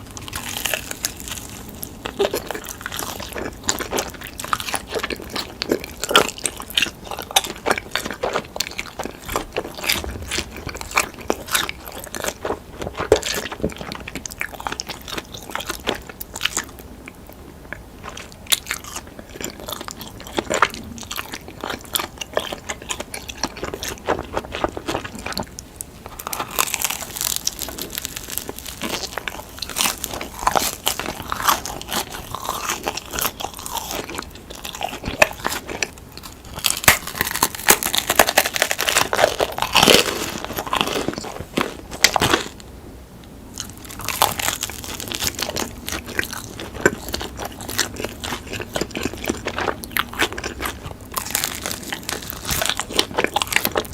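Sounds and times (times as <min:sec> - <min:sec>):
pizza bites and crunches: 0:00.0 - 0:17.2, 0:18.0 - 0:42.6, 0:43.6 - 0:53.9
chewing: 0:00.0 - 0:42.7, 0:43.5 - 0:53.9.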